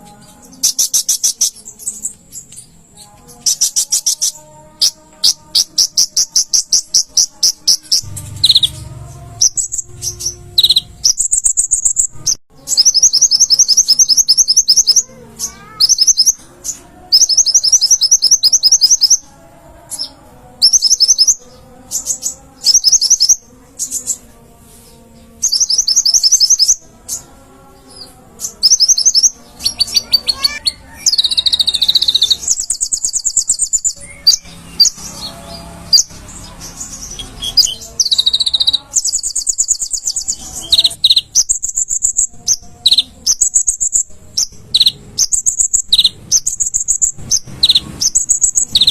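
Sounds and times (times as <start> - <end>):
bird singing high trills: 0.0 - 24.3, 25.2 - 48.9.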